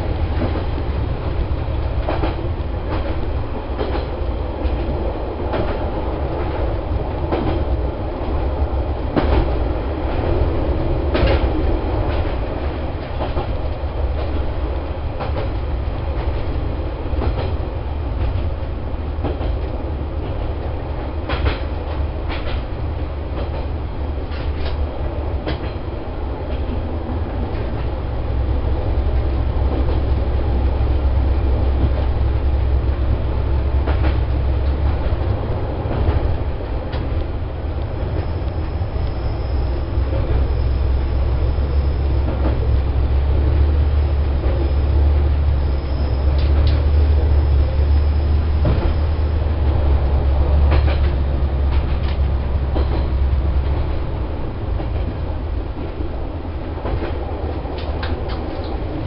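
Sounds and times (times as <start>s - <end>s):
train engine and wheels rumbling: 0.0s - 59.0s.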